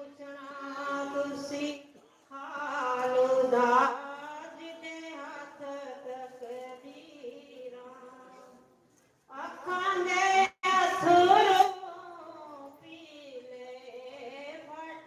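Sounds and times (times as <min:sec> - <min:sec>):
woman chanting unaccompanied: 0:00.0 - 0:08.6, 0:09.3 - 0:15.0.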